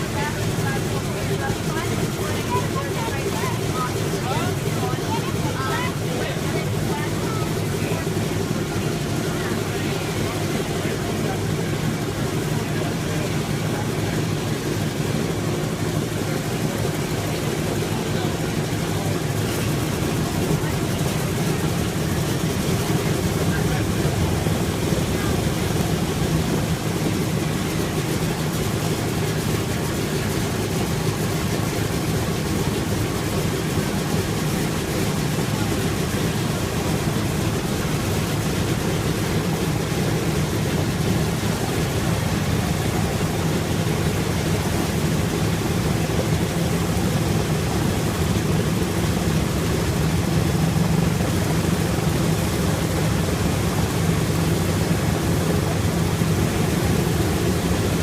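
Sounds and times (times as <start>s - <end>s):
radial piston engines droning: 0.0s - 58.0s.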